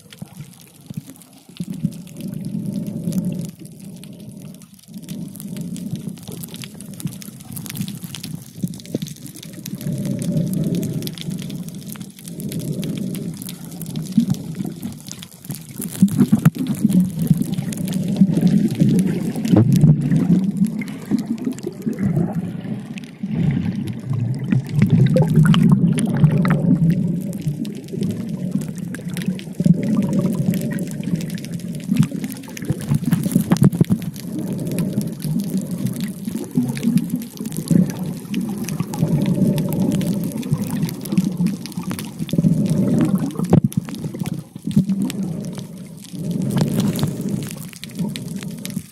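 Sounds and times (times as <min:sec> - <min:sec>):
muffled underwater water noise: 0:00.0 - 0:48.9
small clicks and crackles: 0:00.0 - 0:48.9.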